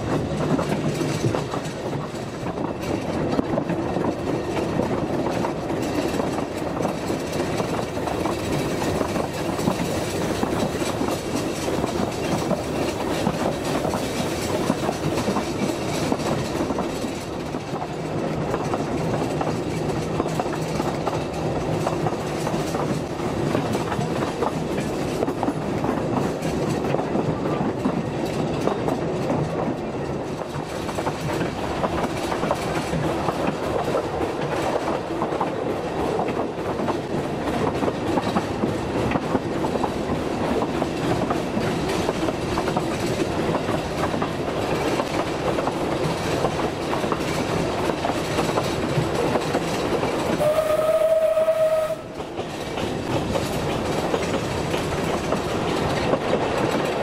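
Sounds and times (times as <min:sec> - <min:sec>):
wheels clattering over rail joints: 0:00.0 - 0:50.5, 0:51.1 - 0:57.0
train carriage rumble: 0:00.0 - 0:57.0.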